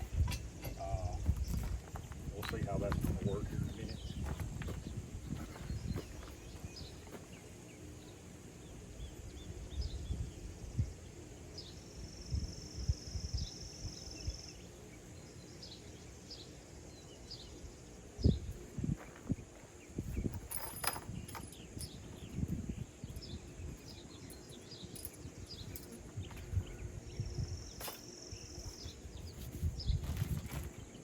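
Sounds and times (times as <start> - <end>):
high insect drone: 0.0 - 31.0
insect buzz: 3.9 - 31.0.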